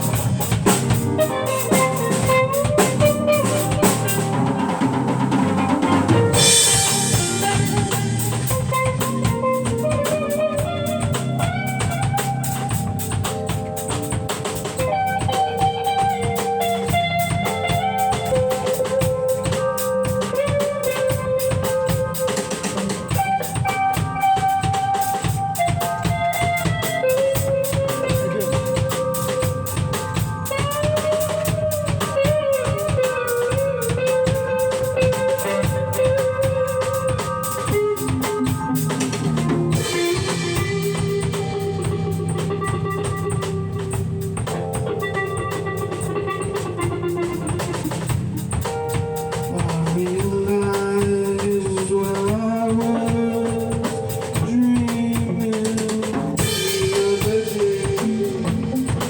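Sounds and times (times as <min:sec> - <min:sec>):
drum kit beat: 0:00.0 - 0:59.0
instrumental lead melody: 0:00.0 - 0:59.0.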